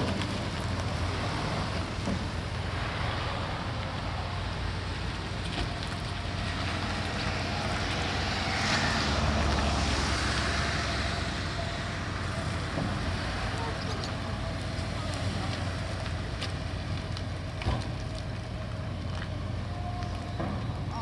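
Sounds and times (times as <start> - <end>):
wind or water hiss: 0.0 - 20.0
low engine rumble: 0.0 - 21.0.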